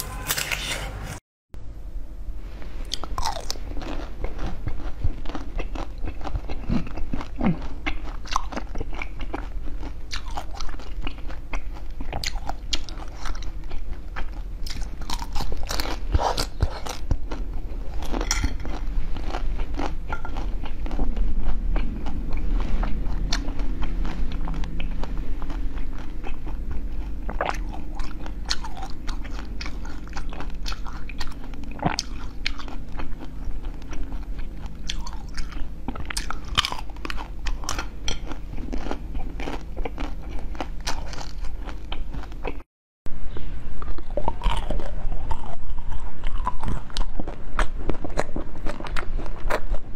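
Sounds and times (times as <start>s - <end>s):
person chewing crunchy food: 2.8s - 42.6s, 43.8s - 49.9s.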